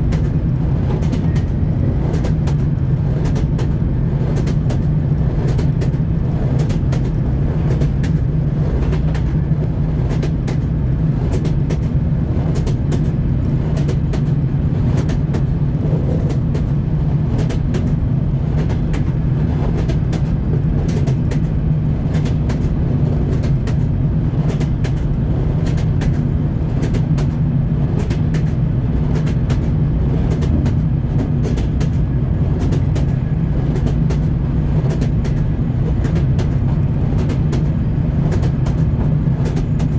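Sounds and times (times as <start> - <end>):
train low rumble: 0.0 - 39.9
train wheels clattering: 0.0 - 39.9.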